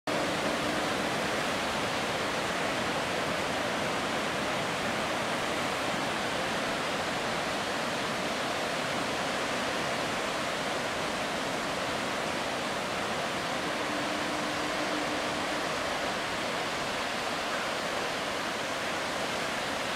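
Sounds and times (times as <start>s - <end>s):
heavy surf breaking: 0.1s - 19.6s.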